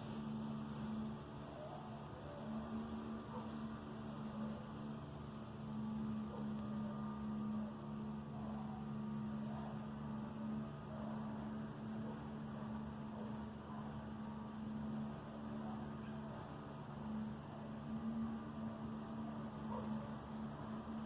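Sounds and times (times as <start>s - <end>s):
faint distant sounds: 0.0s - 21.0s
low droning hum: 0.0s - 21.0s.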